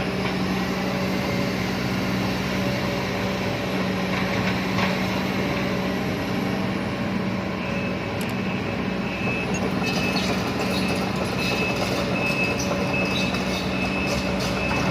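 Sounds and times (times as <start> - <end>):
diesel engine droning: 0.0 - 14.9.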